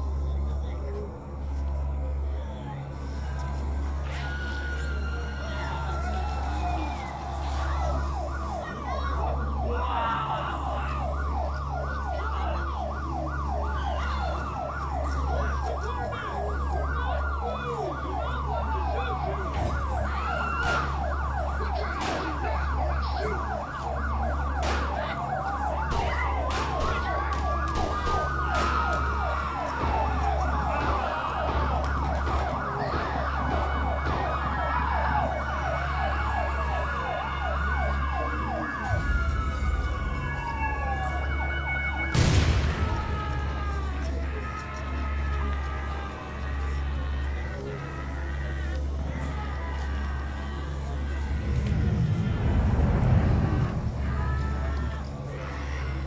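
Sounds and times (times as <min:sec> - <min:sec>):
steady low drone: 0:00.0 - 0:56.0
wailing sirens: 0:00.0 - 0:56.0
fast yelping siren: 0:04.2 - 0:56.0.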